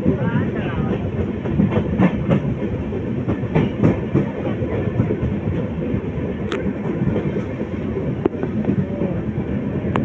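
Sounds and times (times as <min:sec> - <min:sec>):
train wheels rumbling: 0:00.0 - 0:10.0
wheels clickety-clack over rail joints: 0:00.0 - 0:10.0.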